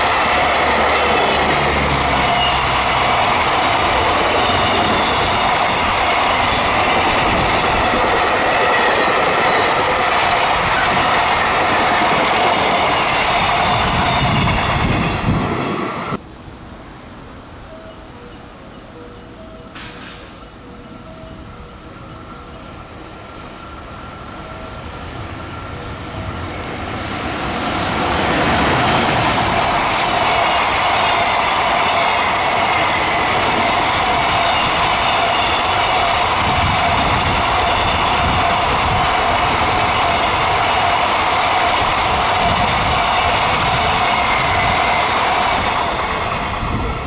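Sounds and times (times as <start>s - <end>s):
freight train wheel-on-rail rumble: 0.0s - 47.0s.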